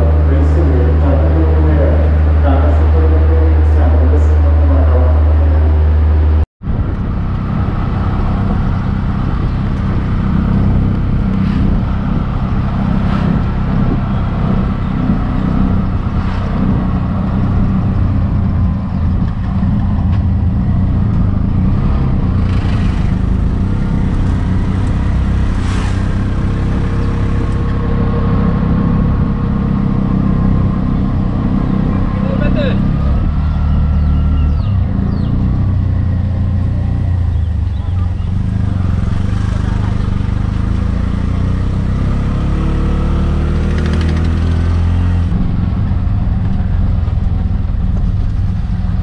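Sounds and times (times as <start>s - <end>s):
auto-rickshaw engine running: 0.0s - 49.0s.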